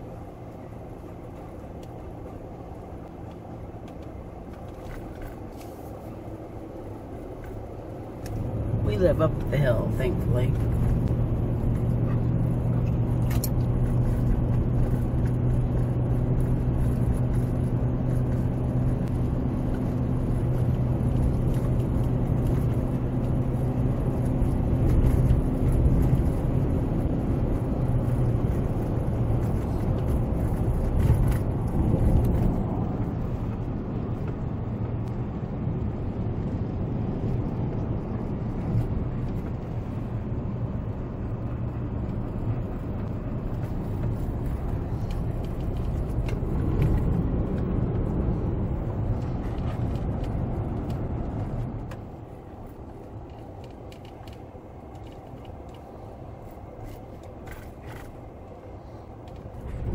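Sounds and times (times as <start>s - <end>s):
car engine hum and road noise: 0.0s - 59.9s.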